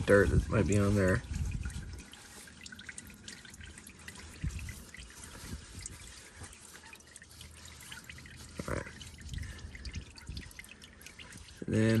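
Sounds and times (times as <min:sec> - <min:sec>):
oil trickling into a pan: 0:00.0 - 0:12.0.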